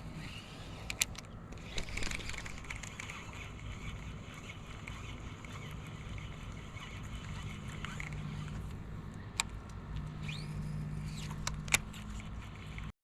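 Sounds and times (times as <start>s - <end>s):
electric trolling motor humming: 0.0s - 12.9s.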